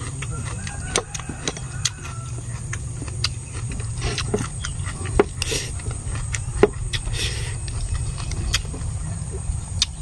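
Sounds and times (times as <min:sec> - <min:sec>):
person chewing crunchy food: 0:00.0 - 0:10.0
steady low rumble: 0:00.0 - 0:10.0.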